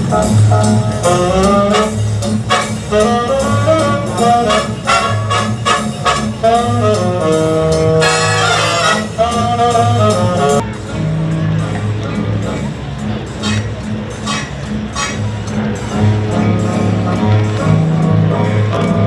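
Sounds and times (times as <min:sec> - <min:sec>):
jazz brass melody: 0:00.0 - 0:10.6, 0:13.0 - 0:17.9
steady bass beat: 0:00.0 - 0:19.0.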